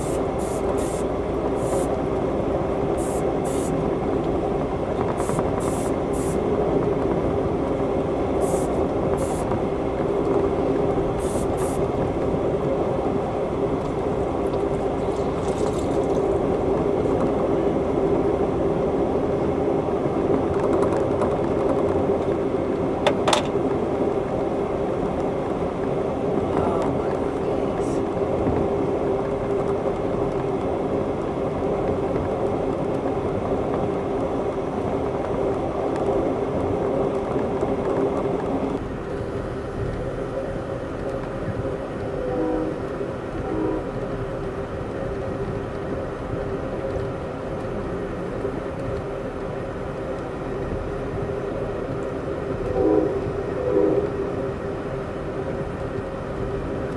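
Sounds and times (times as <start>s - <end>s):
train car rumble and hum: 0.0s - 56.9s.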